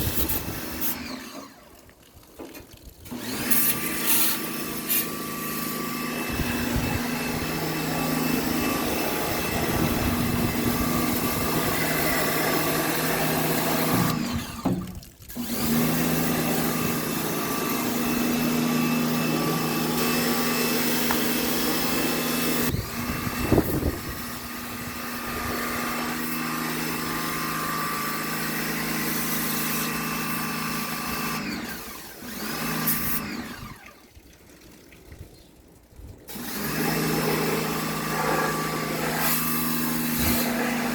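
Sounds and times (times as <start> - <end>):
pressure washer pump humming: 0.0 - 40.9
water spraying: 0.0 - 40.9.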